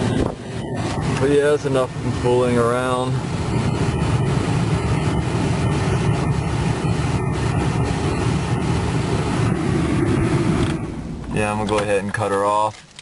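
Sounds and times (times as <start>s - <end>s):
heater blower fan blowing: 0.0s - 12.4s
engine idling: 0.0s - 13.0s.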